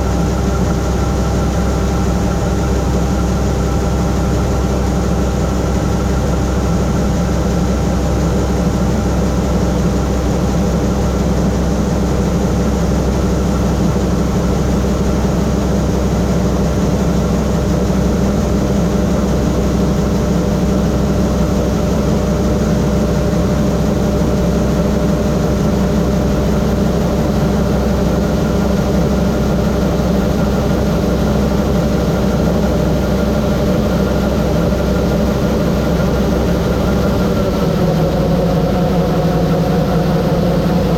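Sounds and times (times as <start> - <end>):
combine harvester running: 0.0 - 40.9.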